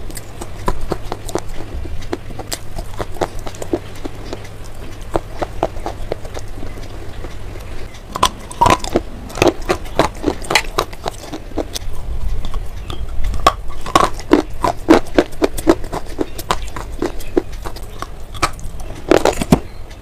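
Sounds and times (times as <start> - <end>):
slate pencil crunching when chewed: 0.0 - 19.6.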